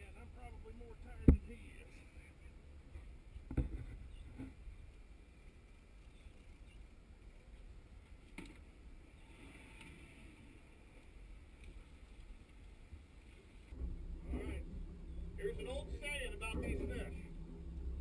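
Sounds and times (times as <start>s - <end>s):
wind and water rumble: 0.0s - 18.0s.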